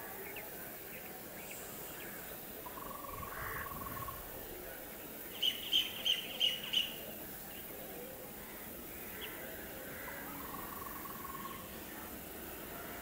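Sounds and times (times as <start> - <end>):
faint open-air background: 0.0 - 13.0
thin steady bird trill: 0.1 - 7.8, 8.4 - 13.0.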